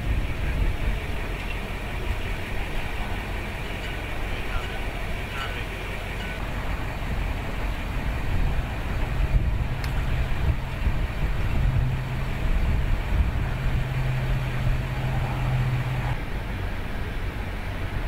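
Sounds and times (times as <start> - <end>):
low hum: 0.0 - 18.0
truck engine rumbling: 0.0 - 18.0.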